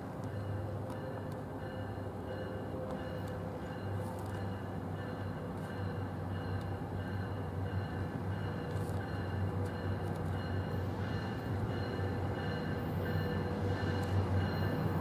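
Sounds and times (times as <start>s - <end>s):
train running with low hum: 0.0s - 15.0s.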